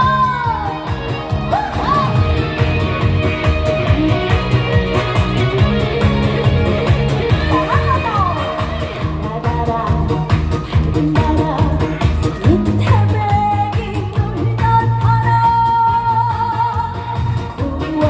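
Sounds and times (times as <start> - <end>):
upbeat music with steady beat: 0.0 - 18.0.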